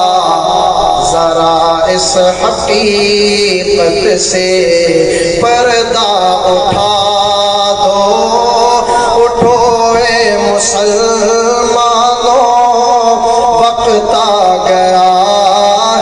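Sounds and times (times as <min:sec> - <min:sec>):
man singing: 0:00.0 - 0:16.0.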